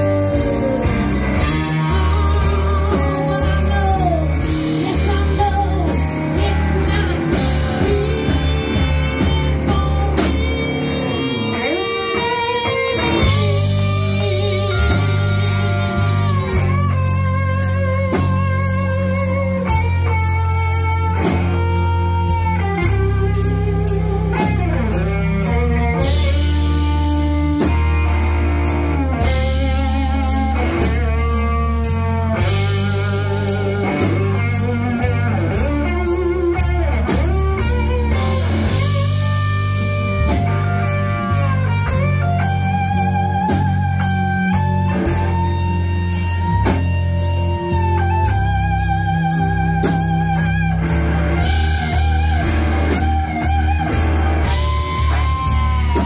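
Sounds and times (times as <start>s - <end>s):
drum kit steady beat: 0.0s - 56.0s
electric bass: 0.0s - 56.0s
electric guitar bent notes: 0.0s - 56.0s.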